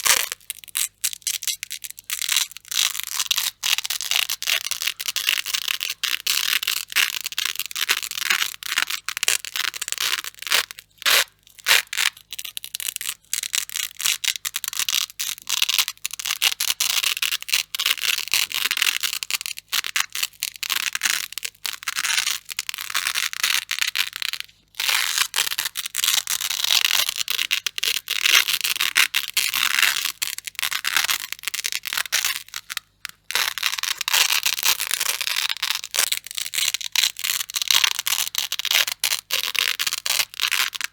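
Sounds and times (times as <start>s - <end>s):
velcro being ripped apart: 0.0s - 40.9s.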